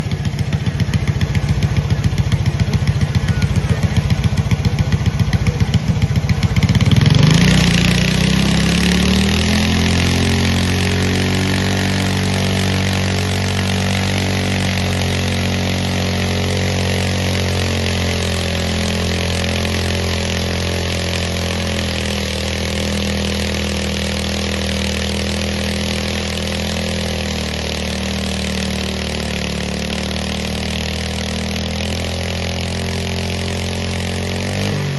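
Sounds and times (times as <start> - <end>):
lawn mower engine revving: 0.0 - 34.9.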